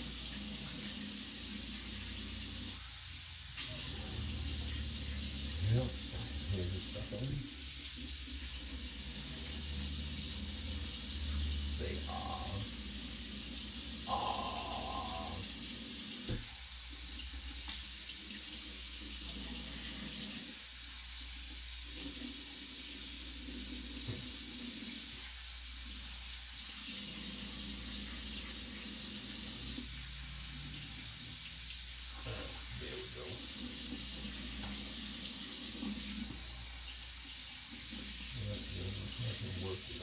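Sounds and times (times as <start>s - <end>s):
faucet water splashing into sink: 0.0s - 20.5s, 21.2s - 40.0s.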